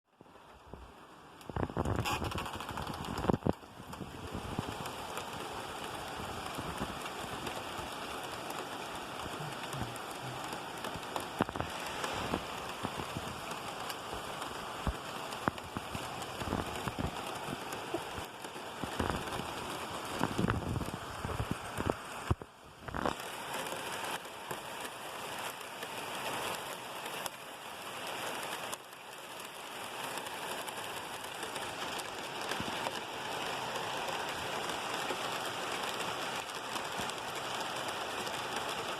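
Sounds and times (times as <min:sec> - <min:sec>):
heavy raindrops striking: 0:00.1 - 0:38.9
steady rain falling: 0:00.1 - 0:38.9.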